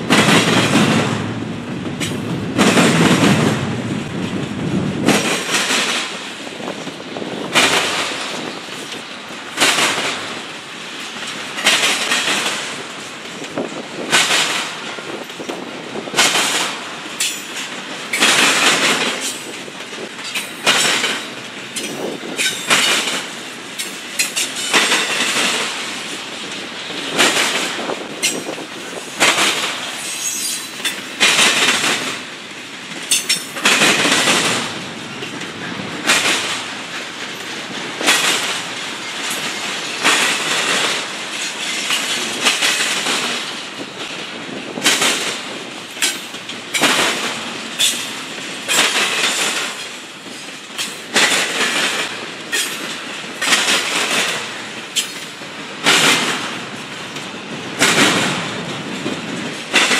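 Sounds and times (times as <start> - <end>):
train rumble: 0.0 - 59.9
train wheels clacking: 0.0 - 59.9.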